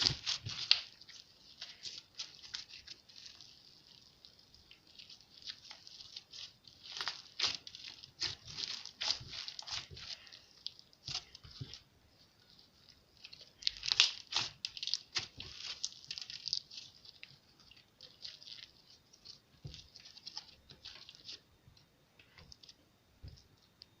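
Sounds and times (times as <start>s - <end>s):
slime squished by hand: 0.0s - 21.4s.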